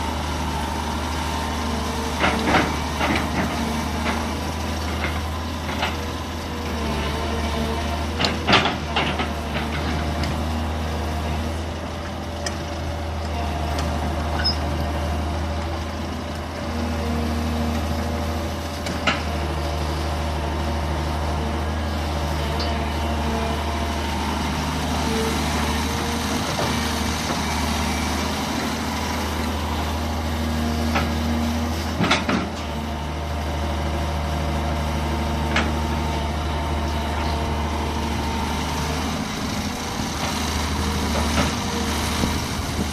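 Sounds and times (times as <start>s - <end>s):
excavator diesel engine running: 0.0s - 42.9s
hydraulics whine: 0.0s - 42.9s.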